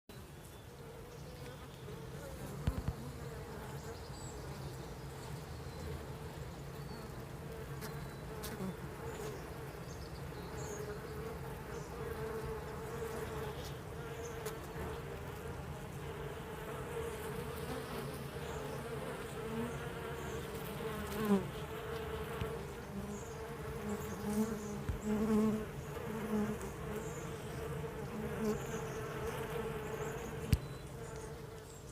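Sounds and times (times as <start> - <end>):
bees humming in a hive: 0.1 - 31.9
single bees buzzing close by: 0.1 - 31.9.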